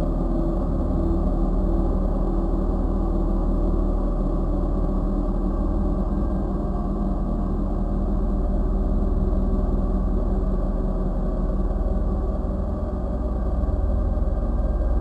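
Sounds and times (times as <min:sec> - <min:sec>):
deep rumble: 0:00.0 - 0:15.0
low synthesizer drone: 0:00.0 - 0:15.0.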